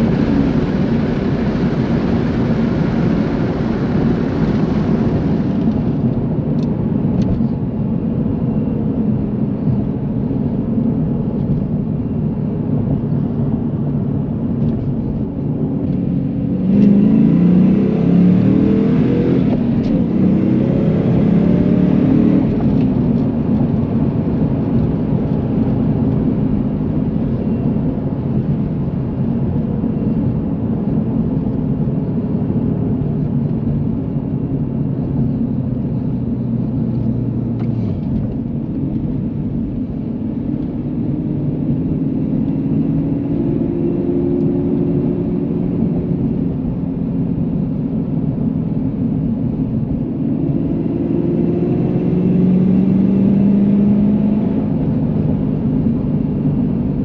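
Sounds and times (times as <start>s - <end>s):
car engine revving in cabin: 0.0s - 57.0s.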